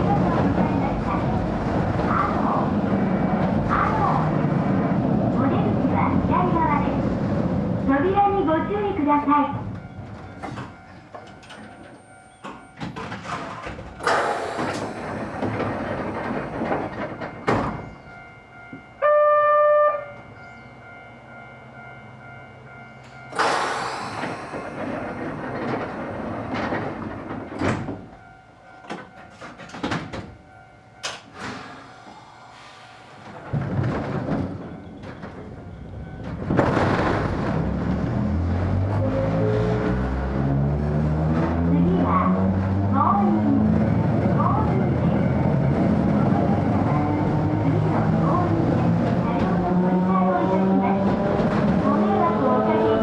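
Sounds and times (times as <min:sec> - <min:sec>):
train knocks and rattles: 0:00.0 - 0:53.0.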